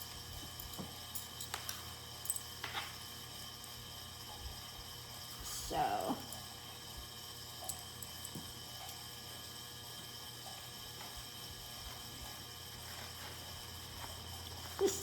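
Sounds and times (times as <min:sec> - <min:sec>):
heating and cooling fan hum: 0:00.0 - 0:15.0.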